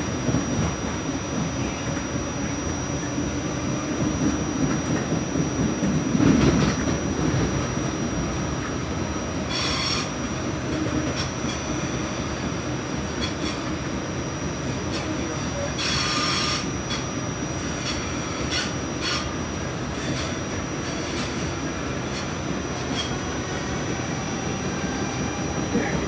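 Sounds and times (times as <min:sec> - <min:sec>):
rail car rumble: 0:00.0 - 0:26.0.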